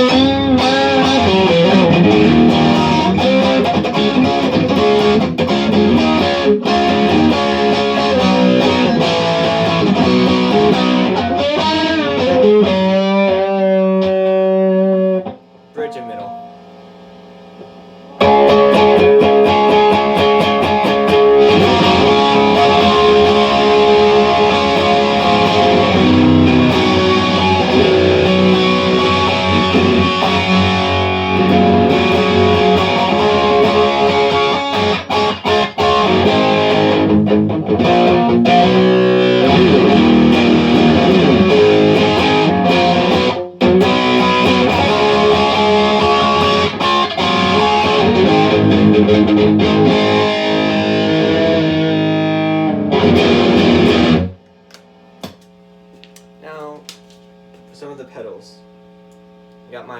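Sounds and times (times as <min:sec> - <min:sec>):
electric guitar through amp: 0:00.0 - 0:54.4.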